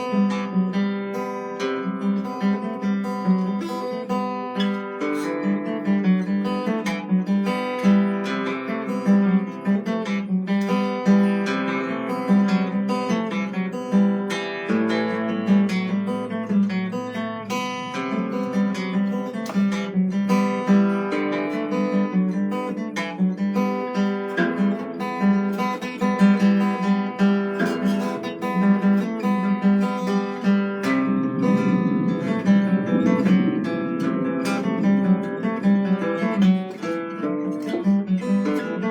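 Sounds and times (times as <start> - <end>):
plucked string instrument music: 0.0 - 38.9.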